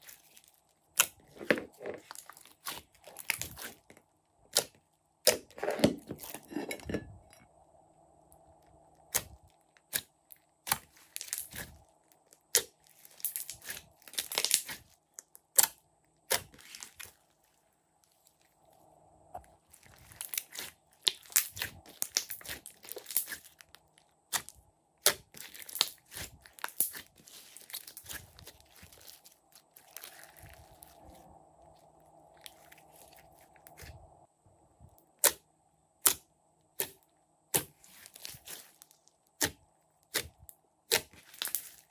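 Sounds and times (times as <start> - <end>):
slime squishing: 0.0 - 6.4, 8.9 - 34.2, 36.0 - 41.9.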